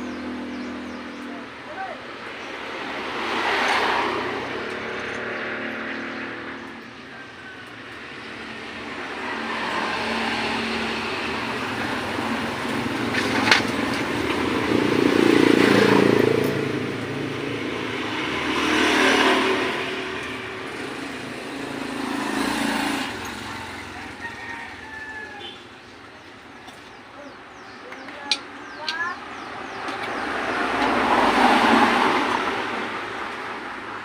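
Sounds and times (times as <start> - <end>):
vehicle engine: 0.0 - 34.0.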